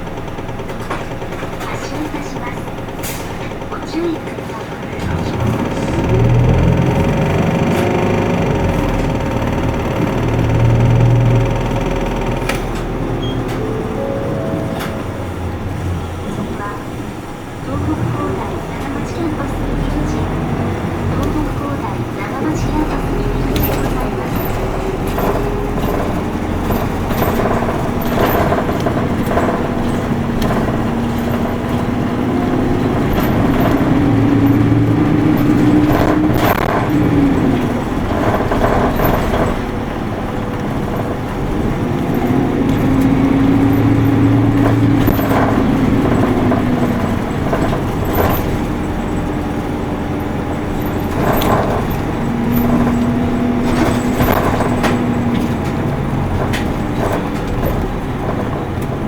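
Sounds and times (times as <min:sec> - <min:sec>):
bus diesel engine under load: 0:00.0 - 0:59.0
rattles and clicks in bus: 0:00.0 - 0:59.0.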